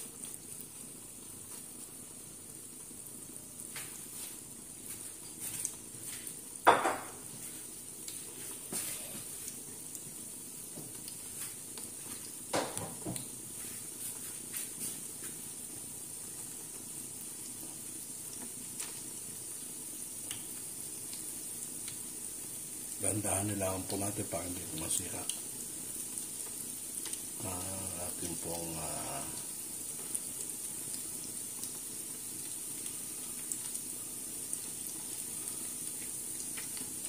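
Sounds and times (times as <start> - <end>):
patties sizzling in oil: 0.0 - 37.0.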